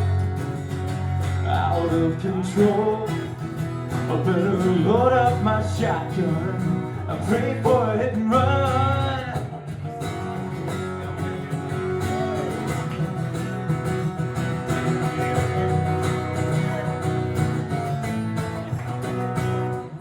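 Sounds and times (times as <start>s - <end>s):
country band playing: 0.0s - 20.0s
guitar: 0.0s - 20.0s.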